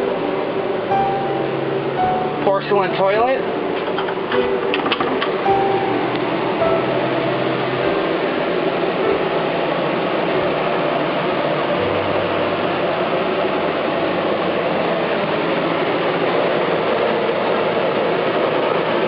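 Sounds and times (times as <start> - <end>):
low hum: 0.0 - 18.2
mechanical running noise: 0.0 - 19.0.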